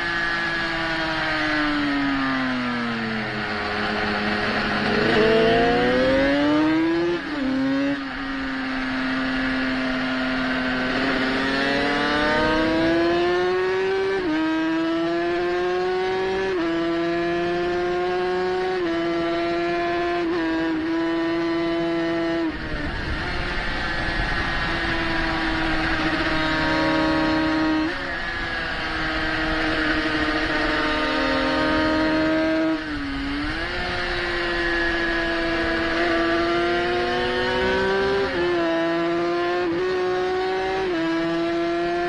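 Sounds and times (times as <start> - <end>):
motorcycle engine revving: 0.0 - 42.0
wind noise: 0.0 - 42.0.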